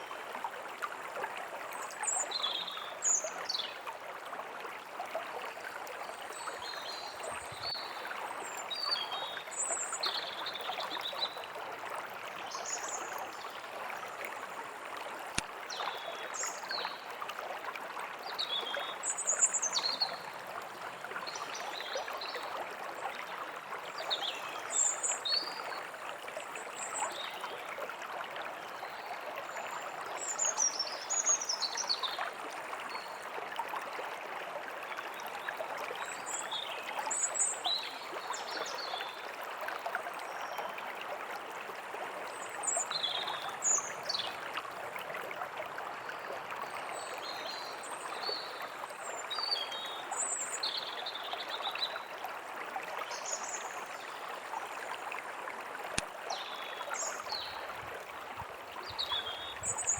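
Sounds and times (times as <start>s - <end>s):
stream trickling and rushing: 0.0s - 59.9s.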